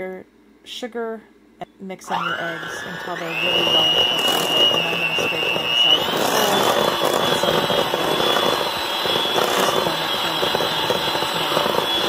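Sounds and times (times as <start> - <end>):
electric mixer whining: 2.1 - 12.0.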